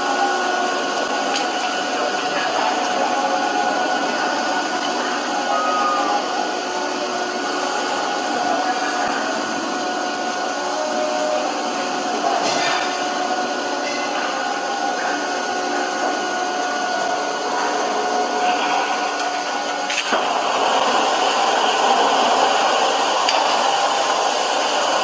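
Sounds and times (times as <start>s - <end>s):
processing machinery hissing: 0.0s - 25.0s.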